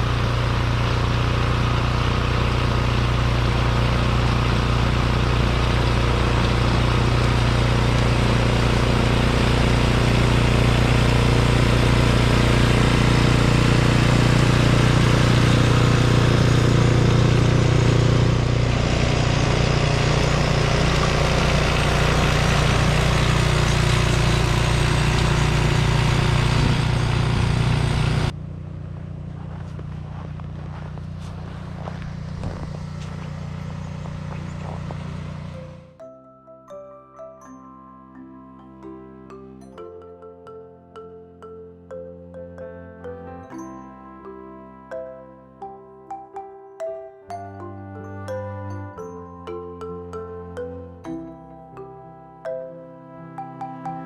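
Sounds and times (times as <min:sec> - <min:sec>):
vehicle engine humming: 0:00.0 - 0:36.0, 0:38.6 - 0:54.0.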